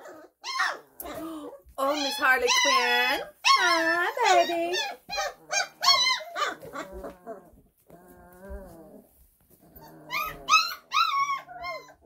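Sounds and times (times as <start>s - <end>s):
puppies whining and whimpering: 0.0s - 12.0s.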